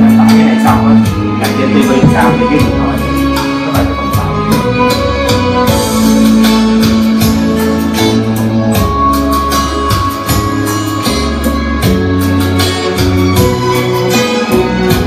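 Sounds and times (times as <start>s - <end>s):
instrumental ballad backing track: 0.0s - 15.0s.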